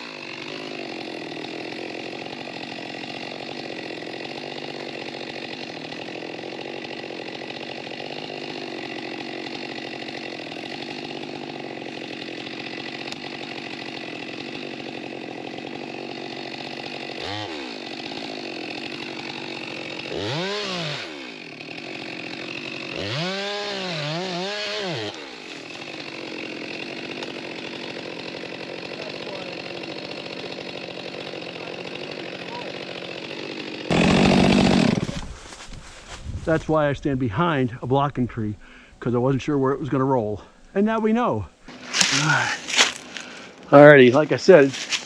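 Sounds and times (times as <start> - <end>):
chainsaw idling and revving: 0.0 - 35.5, 41.7 - 45.0.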